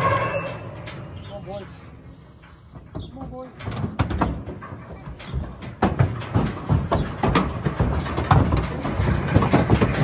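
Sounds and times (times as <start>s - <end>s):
hooves clattering on trailer floor: 0.0s - 10.0s.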